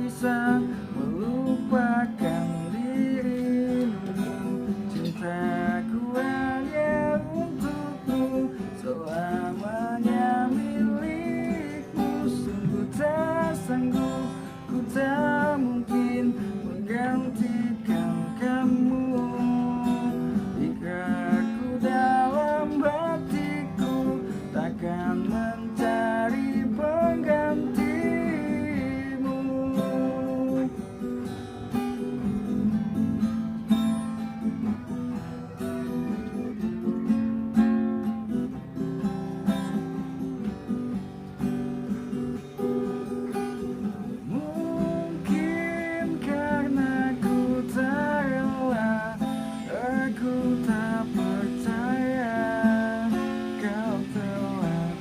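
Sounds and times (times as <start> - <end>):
man singing: 0.0 - 33.3, 41.9 - 55.0
strummed acoustic guitar: 0.0 - 55.0.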